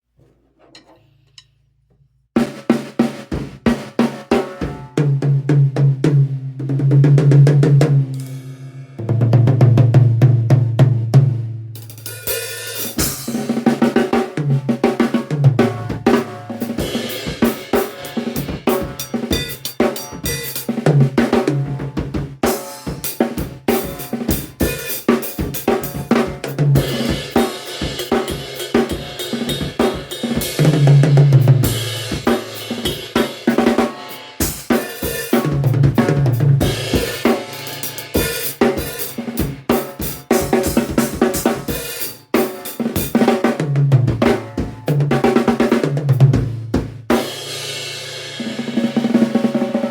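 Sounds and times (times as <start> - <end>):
drum kit playing: 2.4 - 49.9.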